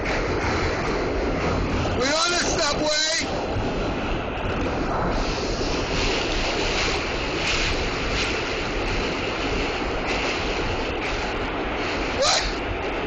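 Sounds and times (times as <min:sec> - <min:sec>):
subway train wheel and tunnel noise: 0:00.0 - 0:13.0.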